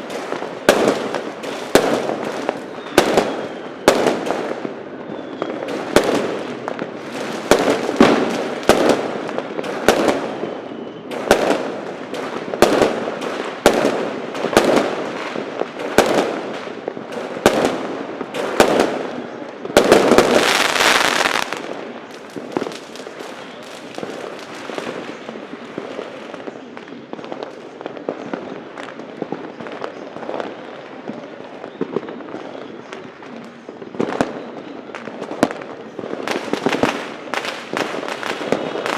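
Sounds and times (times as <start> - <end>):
distant firework pops: 0.0 - 31.2
fireworks bangs and crackling: 0.0 - 38.9.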